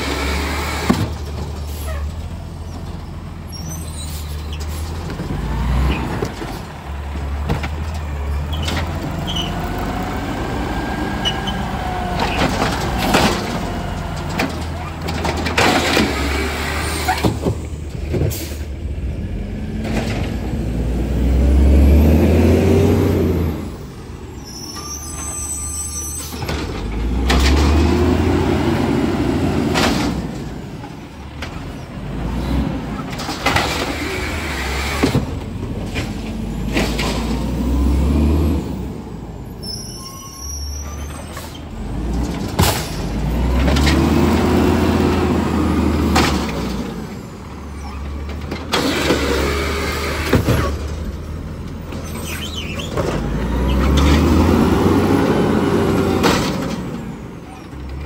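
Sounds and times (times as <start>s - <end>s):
truck engine revving: 0.0s - 24.3s, 26.6s - 39.6s, 41.3s - 58.0s.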